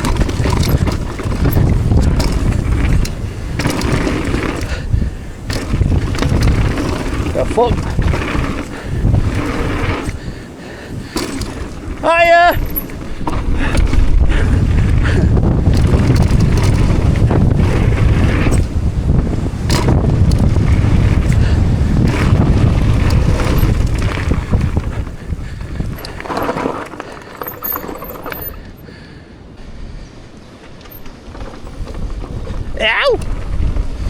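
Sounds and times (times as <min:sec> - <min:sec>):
tyre rumble: 0:00.0 - 0:29.1, 0:30.8 - 0:34.0
bike clattering over bumps: 0:00.0 - 0:29.2, 0:30.6 - 0:34.0
wind buffeting microphone: 0:00.0 - 0:34.0.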